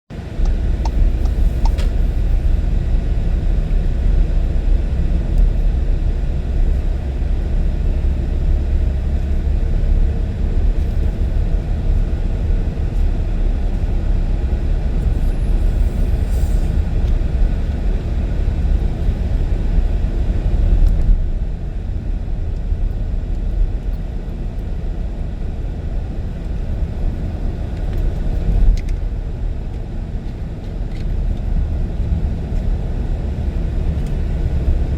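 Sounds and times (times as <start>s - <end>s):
car road and engine rumble: 0.1s - 34.9s.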